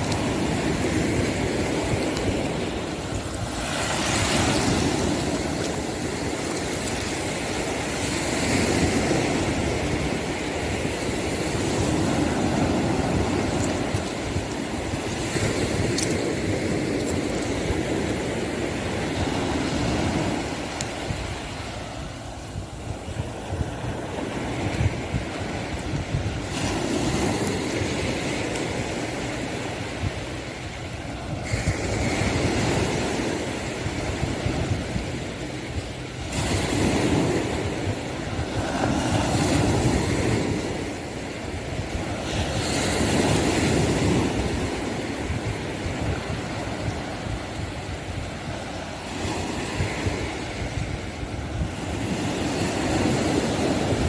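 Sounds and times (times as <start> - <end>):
low wind rumble: 0.0 - 54.0
waves breaking on beach: 0.0 - 54.0.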